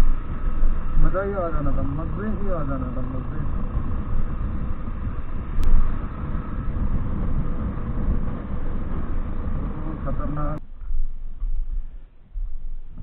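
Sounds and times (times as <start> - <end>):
motorcycle engine rumble: 0.0 - 13.0
wind noise: 0.0 - 13.0.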